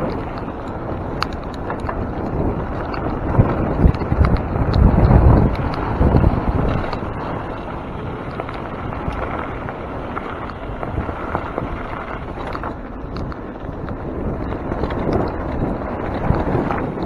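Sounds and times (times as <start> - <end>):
bike clicks and rattles: 0.0 - 17.0
bike tyres rumbling on dirt: 0.0 - 17.0
wind on microphone: 0.0 - 17.0.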